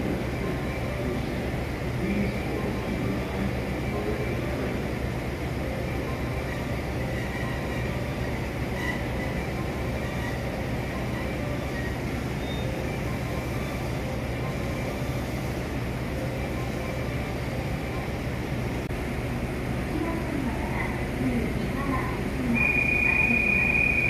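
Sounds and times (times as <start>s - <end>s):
electric train rumble and hum: 0.0s - 24.0s
faint steady tones: 0.0s - 24.0s.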